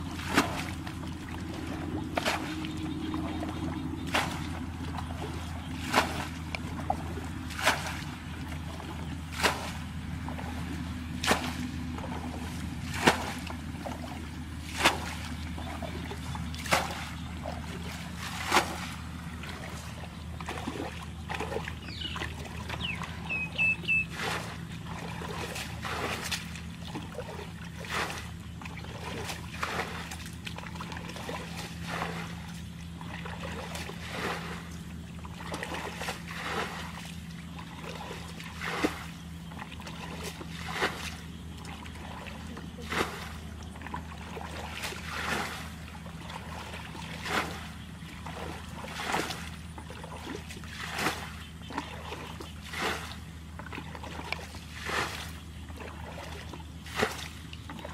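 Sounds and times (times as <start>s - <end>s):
muddy water splashing: 0.0s - 57.9s.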